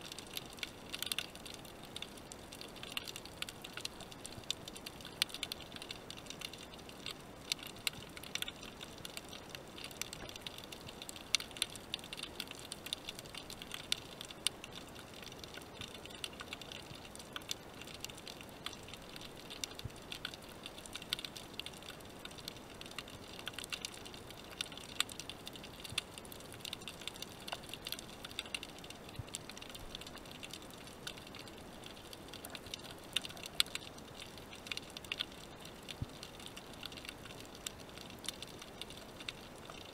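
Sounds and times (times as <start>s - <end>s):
snapping shrimp crackling underwater: 0.0s - 39.9s.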